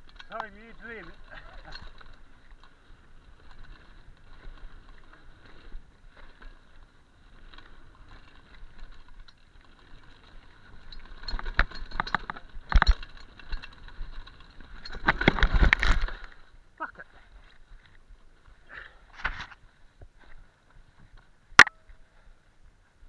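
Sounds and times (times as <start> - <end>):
bike clattering over rough ground: 0.0 - 22.3
bike rattling: 0.0 - 23.0.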